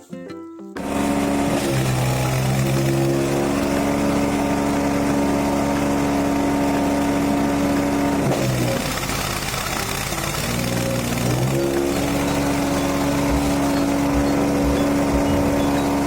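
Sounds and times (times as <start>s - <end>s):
wood chipper engine running: 0.8s - 16.0s.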